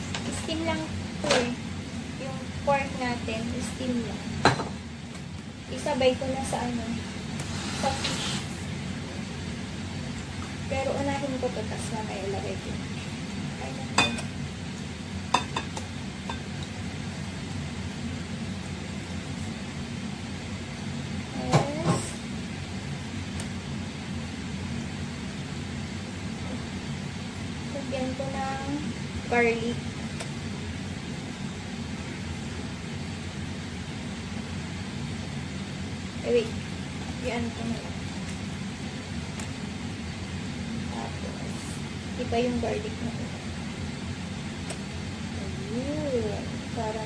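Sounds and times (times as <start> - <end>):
low mechanical hum with hiss: 0.0 - 47.0.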